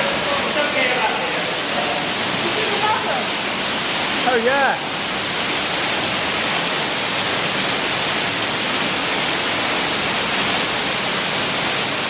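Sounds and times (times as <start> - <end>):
water rushing in cave stream: 0.0 - 12.0.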